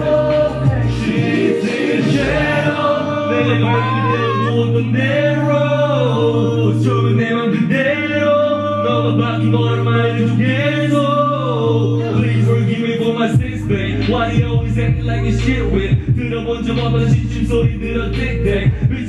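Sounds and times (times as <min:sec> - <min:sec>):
choir-like vocal chords: 0:00.0 - 0:19.0
held bass notes: 0:00.0 - 0:19.0
man singing into microphone: 0:00.0 - 0:19.0.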